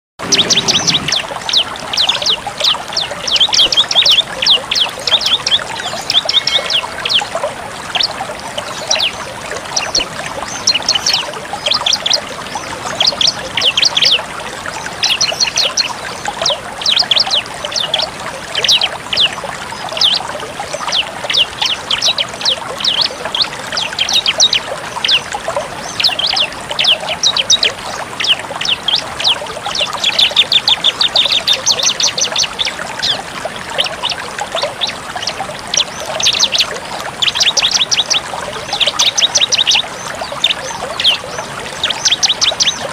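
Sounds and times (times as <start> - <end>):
bird singing fast chirping trills: 0.2 - 42.9.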